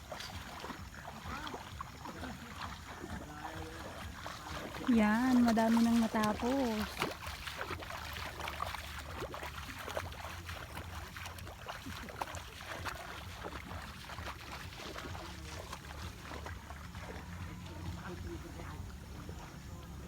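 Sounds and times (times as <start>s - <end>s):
water and mud splashing: 0.0s - 20.0s.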